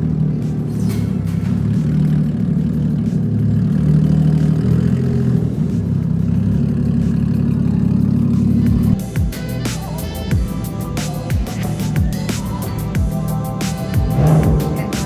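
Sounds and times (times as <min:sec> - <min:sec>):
car engine running at low revs: 0:00.0 - 0:09.0, 0:10.4 - 0:15.0.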